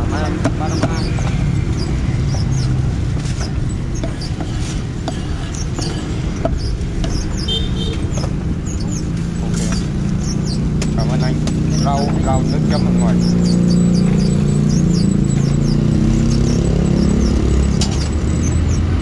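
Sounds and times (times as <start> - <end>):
sharp knocks: 0.0 - 18.6
traffic rumble: 0.0 - 19.0
wind: 0.0 - 19.0.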